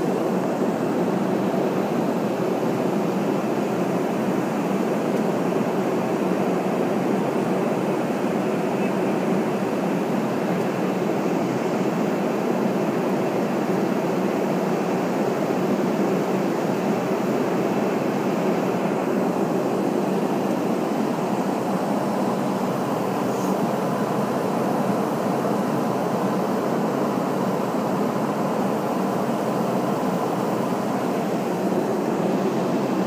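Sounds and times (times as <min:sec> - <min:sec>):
jet engines droning: 0:00.0 - 0:33.0
rushing air in airliner cabin: 0:00.0 - 0:33.0.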